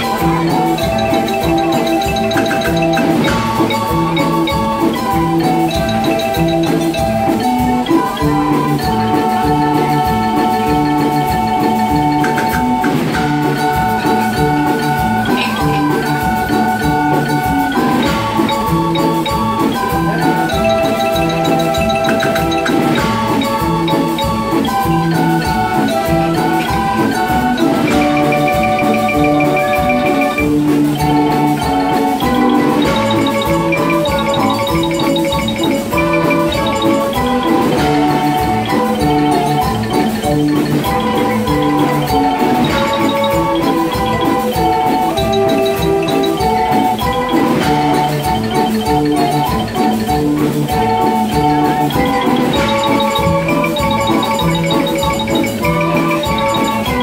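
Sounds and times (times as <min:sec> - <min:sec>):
barrel organs playing a tune: 0:00.0 - 0:57.0
high chiming notes: 0:00.0 - 0:57.0.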